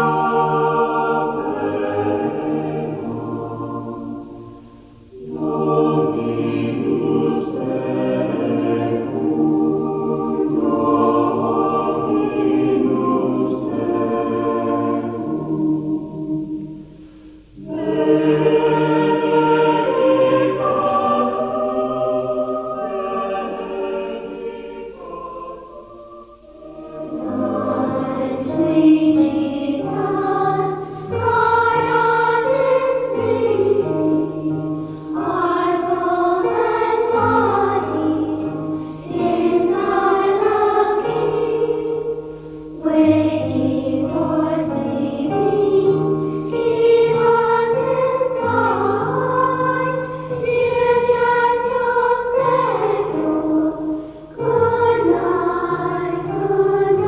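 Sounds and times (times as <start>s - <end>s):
choir singing sacred music: 0.0s - 57.0s.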